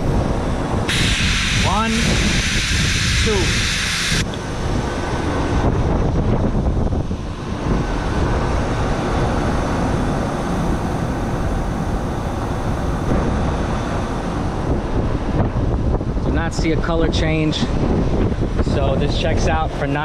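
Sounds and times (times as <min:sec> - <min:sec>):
air conditioner rumbling: 0:00.0 - 0:20.0
wind buffeting microphone: 0:00.0 - 0:20.0.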